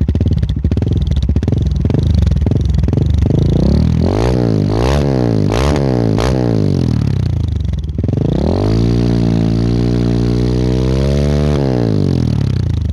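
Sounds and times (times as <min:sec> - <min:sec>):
motorcycle engine revving: 0:00.0 - 0:12.9.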